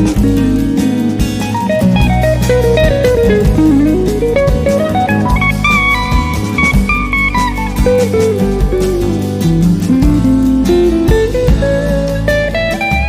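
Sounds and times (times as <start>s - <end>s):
bass and drums: 0.0s - 13.0s
guitar melody: 0.0s - 13.0s.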